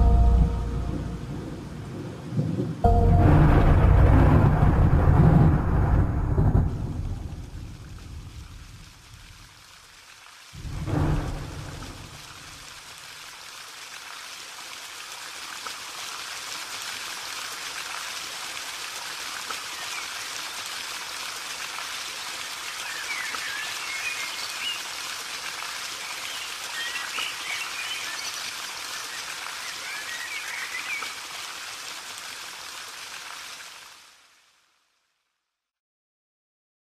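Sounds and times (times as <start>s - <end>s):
steady rain falling: 0.0s - 35.3s.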